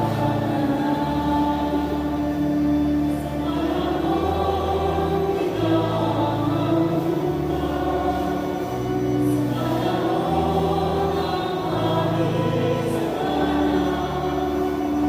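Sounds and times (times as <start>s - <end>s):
church choir singing: 0.0s - 15.0s.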